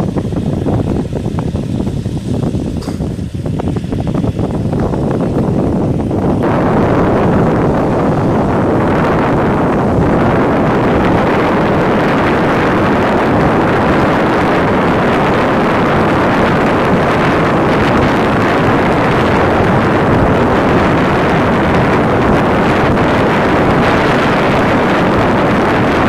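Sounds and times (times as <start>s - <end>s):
tractor diesel engine running: 0.0s - 26.0s
wind noise on microphone: 0.0s - 26.0s.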